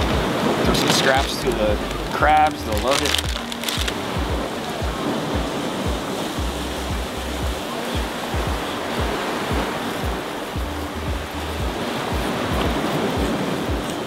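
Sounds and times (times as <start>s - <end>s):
music with bass and beat: 0.0s - 14.0s
surf washing on rocky shore: 0.0s - 14.0s.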